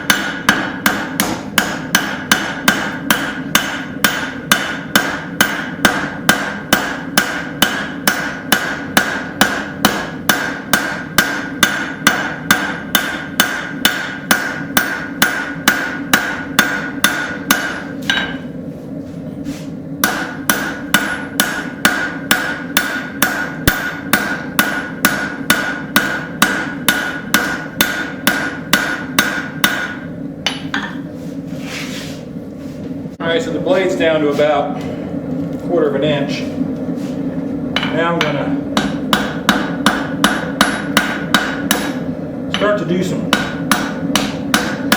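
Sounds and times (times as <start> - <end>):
anvil ringing: 0.0 - 18.5, 20.0 - 31.1, 37.8 - 44.9
hammer striking metal on anvil: 0.0 - 18.6, 20.0 - 31.1, 37.8 - 44.9.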